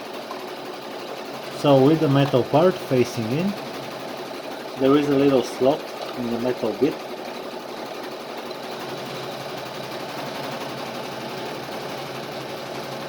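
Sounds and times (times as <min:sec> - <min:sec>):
steady mechanical whirr: 0:00.0 - 0:13.0.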